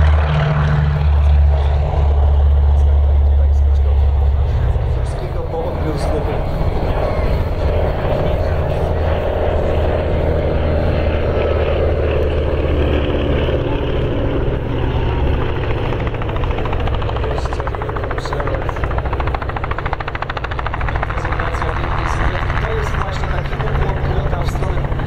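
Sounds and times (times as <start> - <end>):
aircraft propeller engines droning: 0.0 - 25.0.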